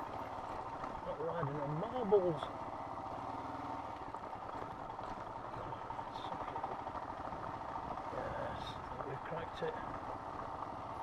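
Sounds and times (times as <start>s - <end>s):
motorcycle engine running: 0.0s - 11.0s
tyres on loose gravel: 0.0s - 11.0s.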